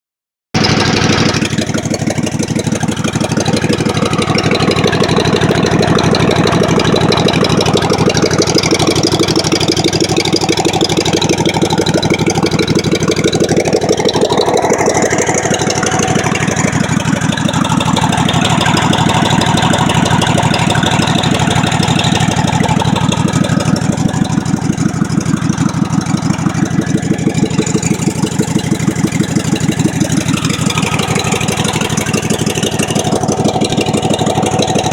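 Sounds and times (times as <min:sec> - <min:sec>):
lawn mower engine running: 0:00.6 - 0:34.9.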